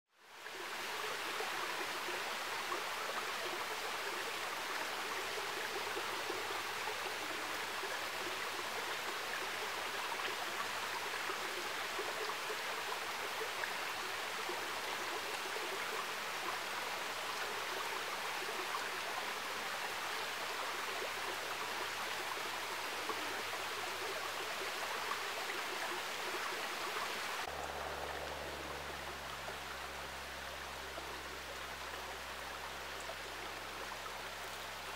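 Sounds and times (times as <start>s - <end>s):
creek running over rocks: 0.1s - 34.9s.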